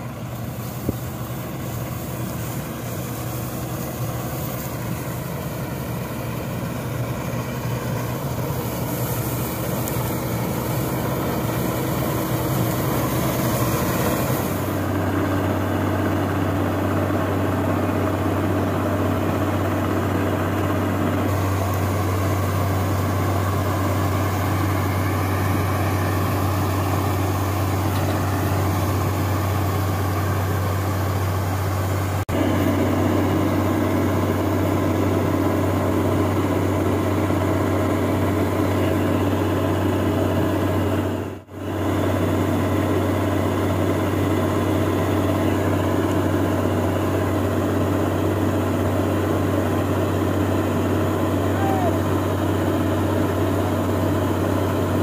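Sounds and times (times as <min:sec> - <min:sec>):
combine harvester humming: 0:00.0 - 0:55.0
grain pouring from auger: 0:00.0 - 0:55.0.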